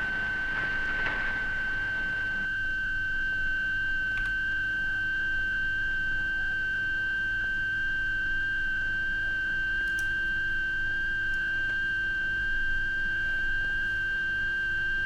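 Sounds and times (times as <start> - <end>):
high-pitched sine tone: 0.0 - 15.0.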